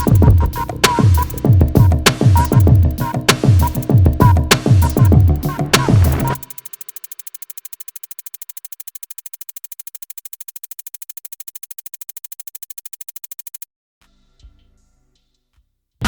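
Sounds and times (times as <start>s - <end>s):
fast electronic ticking: 0.0s - 13.7s.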